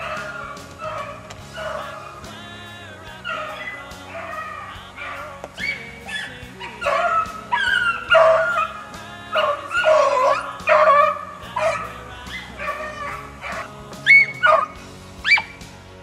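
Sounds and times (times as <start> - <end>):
hounds baying: 0.0 - 2.4, 3.1 - 15.6.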